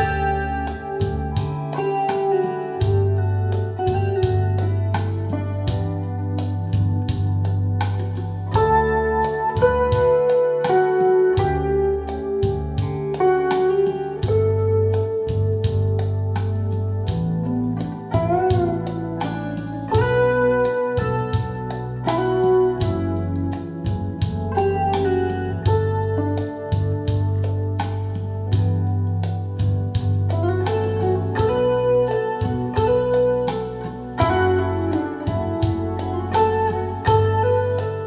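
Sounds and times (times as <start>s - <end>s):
instrumental music through speakers: 0.0s - 38.0s.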